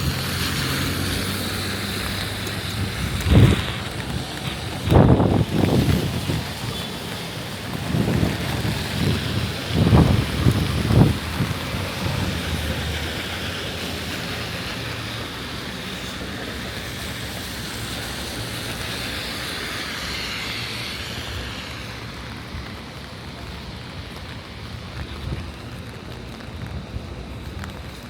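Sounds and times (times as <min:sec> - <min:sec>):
heavy vehicle engine rumbling: 0:00.0 - 0:28.0
rain hissing: 0:00.0 - 0:28.0
wet street traffic: 0:00.0 - 0:28.0.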